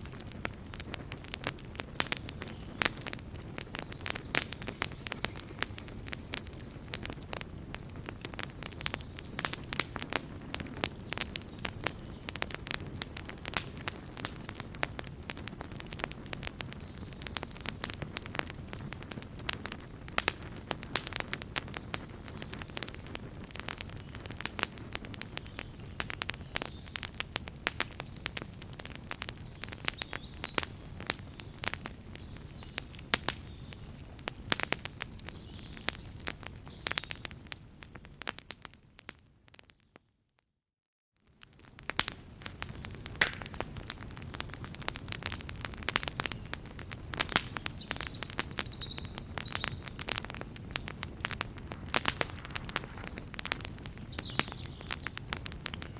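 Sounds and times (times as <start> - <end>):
low rush of flames: 0.0 - 36.0, 41.4 - 55.9
bonfire crackling and popping: 0.0 - 39.9, 41.2 - 55.9.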